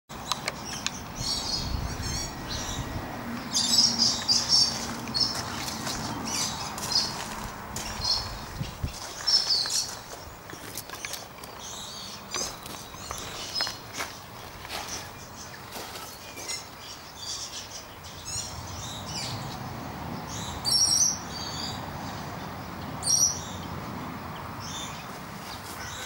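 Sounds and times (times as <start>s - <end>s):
birds chirping: 0.1s - 26.0s.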